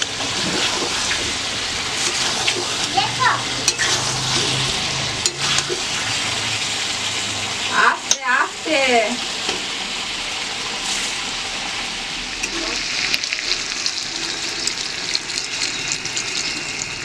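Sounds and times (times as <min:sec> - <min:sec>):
curry sizzling in hot oil: 0:00.0 - 0:17.0.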